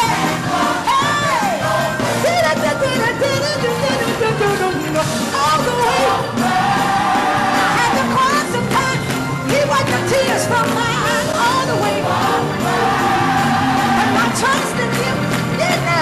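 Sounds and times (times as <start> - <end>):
band playing: 0.0 - 16.0
steady bass notes: 0.0 - 16.0
voices singing gospel: 0.0 - 16.0.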